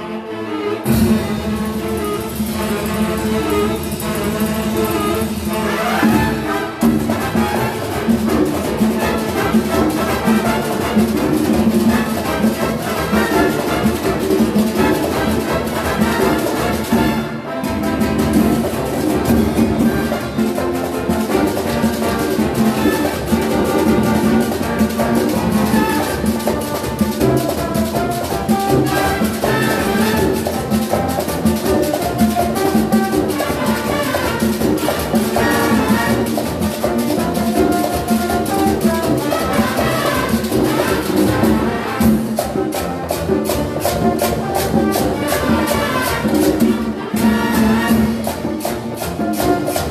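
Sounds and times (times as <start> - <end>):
trumpets: 0.0 - 49.9
percussion: 0.8 - 49.9.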